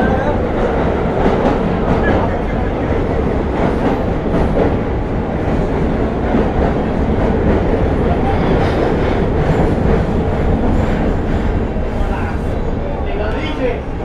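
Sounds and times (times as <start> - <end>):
subway train wheels rumbling: 0.0 - 14.0.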